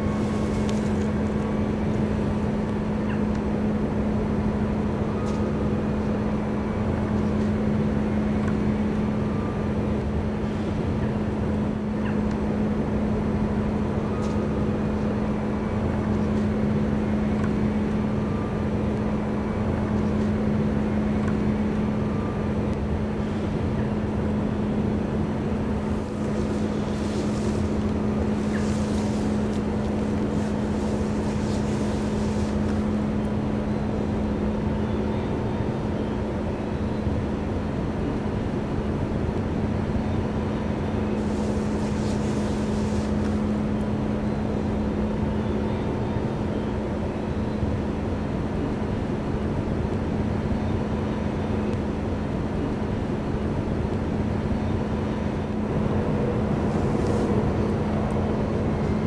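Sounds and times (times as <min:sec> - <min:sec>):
ship diesel engines droning: 0:00.0 - 0:59.0.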